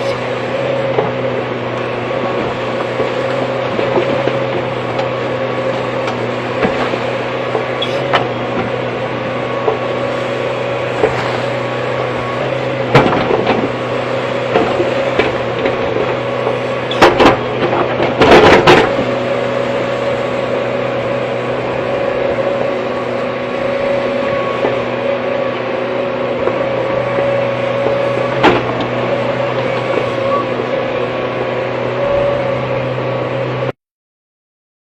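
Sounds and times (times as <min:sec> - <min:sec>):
excavator diesel engine running: 0:00.0 - 0:33.8.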